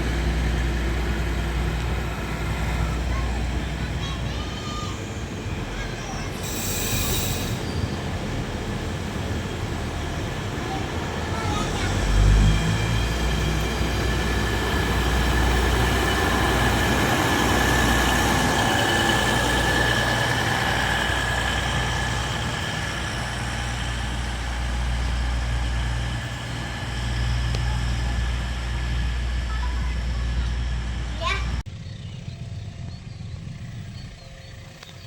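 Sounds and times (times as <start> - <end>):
diesel locomotive engine rumble: 0.0 - 35.0.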